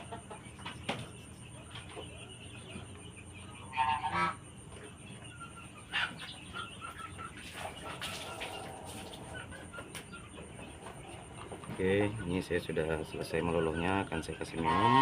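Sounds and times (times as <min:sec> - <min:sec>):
chicken calling: 0:00.0 - 0:15.0.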